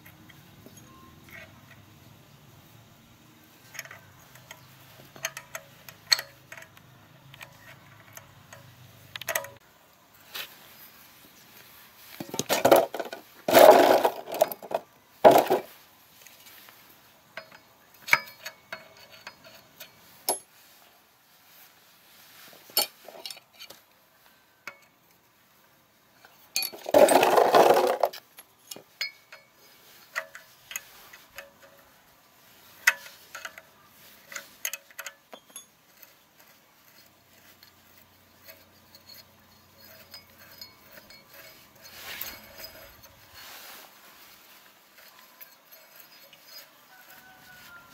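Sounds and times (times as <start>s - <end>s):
metallic clicks and clinks: 0.0s - 1.9s, 3.5s - 9.6s, 12.2s - 20.8s, 22.4s - 23.8s, 26.2s - 47.9s.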